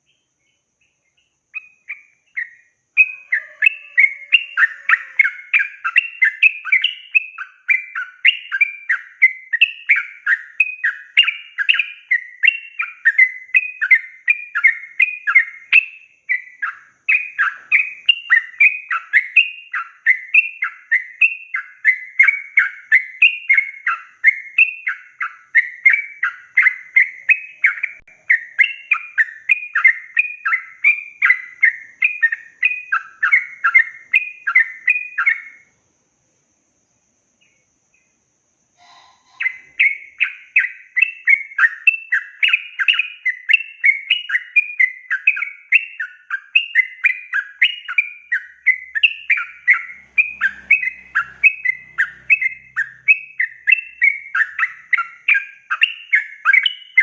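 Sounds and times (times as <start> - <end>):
bird singing whistled notes: 0.0 - 57.0.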